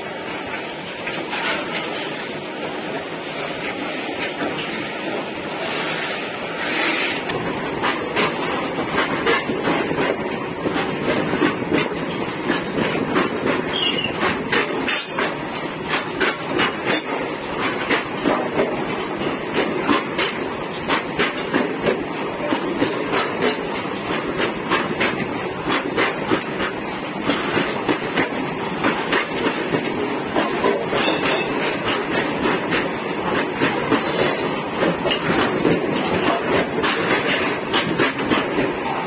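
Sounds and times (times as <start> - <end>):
steel train wheels rumbling on rail: 0.0 - 39.0
wheels clacking over rail joints: 0.4 - 5.0, 6.5 - 39.0.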